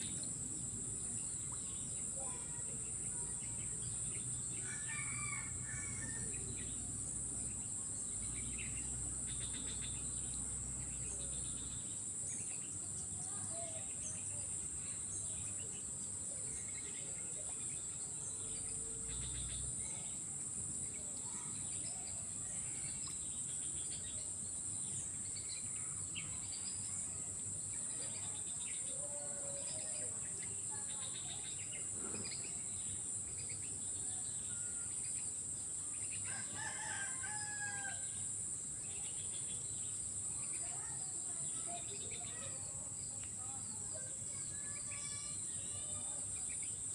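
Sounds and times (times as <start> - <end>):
high-pitched insect chorus: 0.0 - 46.9.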